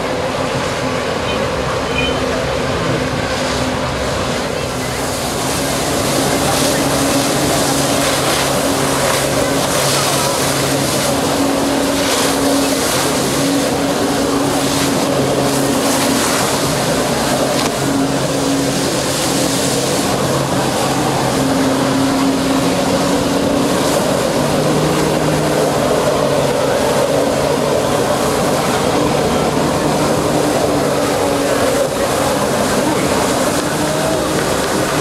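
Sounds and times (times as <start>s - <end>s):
jet ski engine running hard: 0.0s - 35.0s
water jets spraying: 0.0s - 35.0s.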